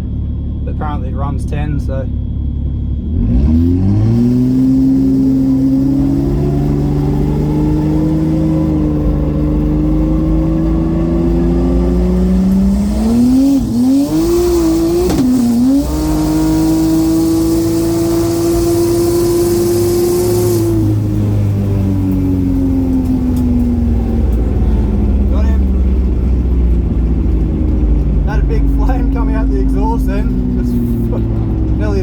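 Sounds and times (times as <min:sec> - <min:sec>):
turbo car engine accelerating: 0:00.0 - 0:32.0.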